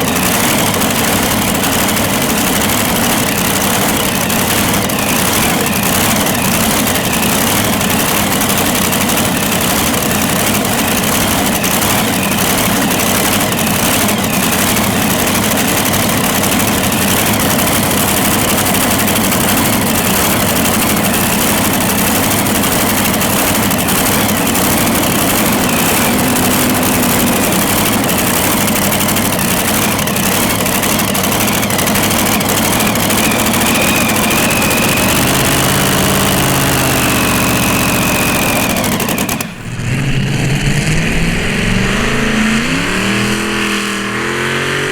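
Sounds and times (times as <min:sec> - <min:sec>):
loud tractor engines running: 0:00.0 - 0:44.9.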